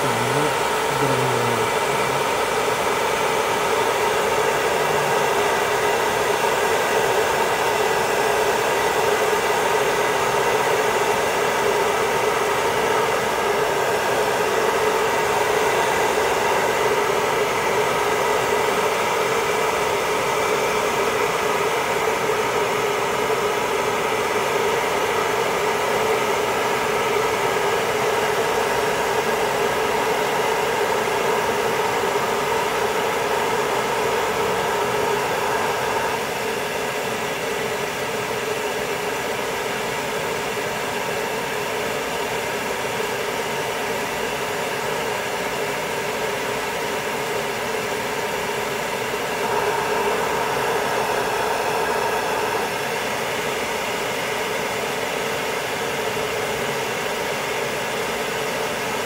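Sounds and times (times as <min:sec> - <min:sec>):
blow dryer running: 0:00.0 - 0:59.0.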